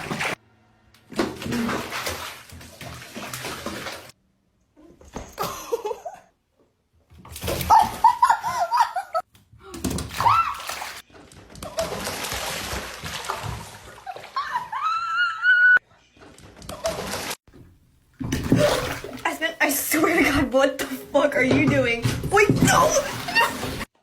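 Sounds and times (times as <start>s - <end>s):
water splashing and sloshing: 0.0s - 0.4s, 1.0s - 4.2s, 7.0s - 15.1s, 16.2s - 24.0s.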